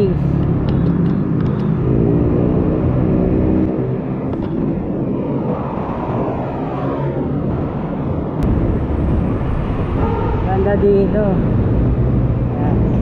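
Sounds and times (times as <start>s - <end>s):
low traffic rumble: 0.0s - 13.0s
passing vehicle engine: 0.0s - 13.0s.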